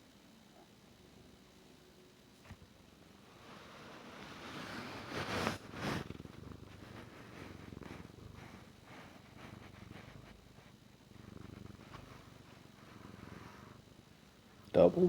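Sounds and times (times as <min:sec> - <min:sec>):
cat purring: 0:02.3 - 0:15.0.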